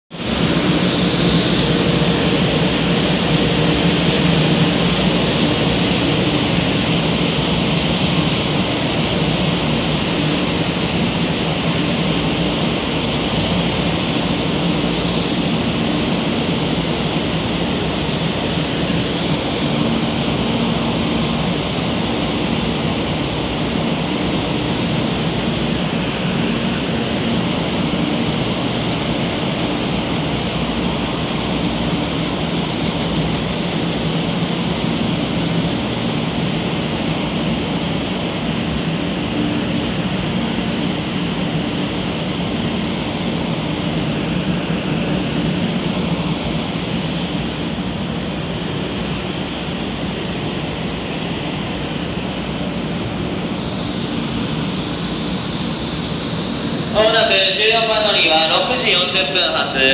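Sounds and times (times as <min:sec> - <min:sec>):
steady rushing noise: 0:00.1 - 0:59.9.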